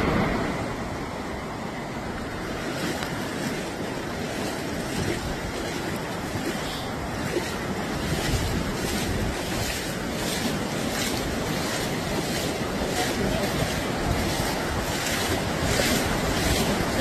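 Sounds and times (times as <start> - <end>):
floodwater rushing: 0.0 - 17.0
wind buffeting microphone: 0.0 - 17.0.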